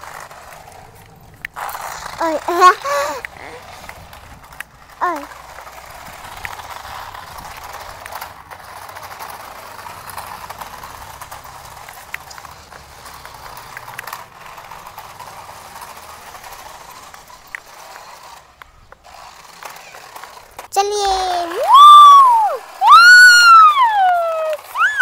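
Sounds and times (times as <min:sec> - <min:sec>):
toy car motors whirring: 0:00.0 - 0:25.0.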